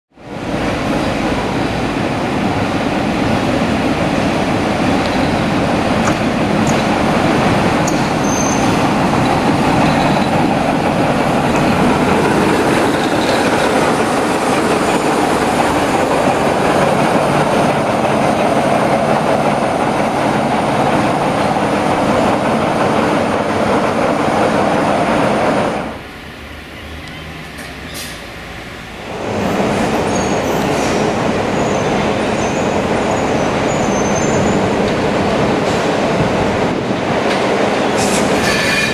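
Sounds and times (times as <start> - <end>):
train wheels rumbling: 0.2 - 38.9.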